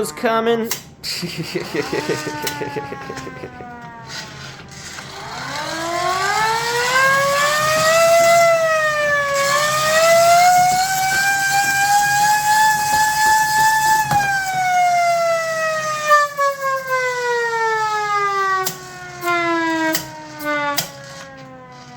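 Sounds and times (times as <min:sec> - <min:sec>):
siren wailing: 0:00.0 - 0:00.6, 0:01.4 - 0:21.9.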